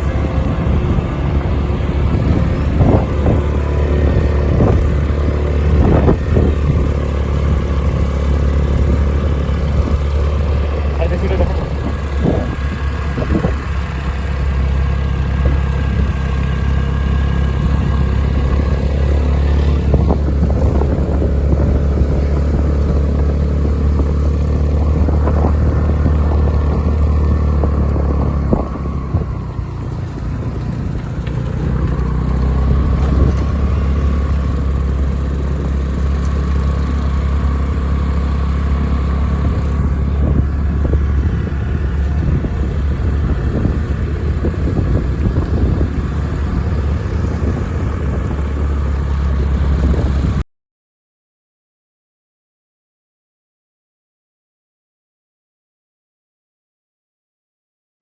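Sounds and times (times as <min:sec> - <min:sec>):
motorcycle engine running: 0:00.0 - 0:50.4.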